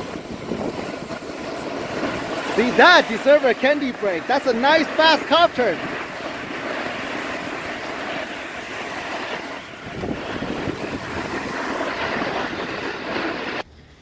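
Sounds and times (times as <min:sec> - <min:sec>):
skis scraping snow: 0:00.0 - 0:13.7
wind on microphone: 0:00.0 - 0:13.7.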